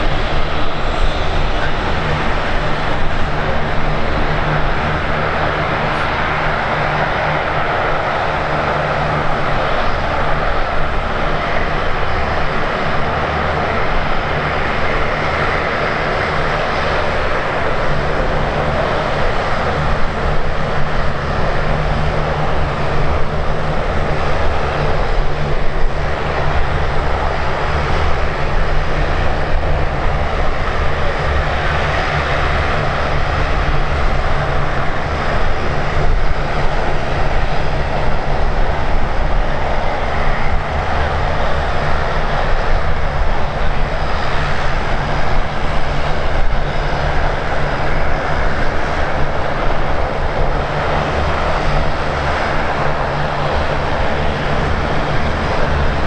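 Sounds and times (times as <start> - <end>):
airliner engines rushing: 0.0 - 56.0.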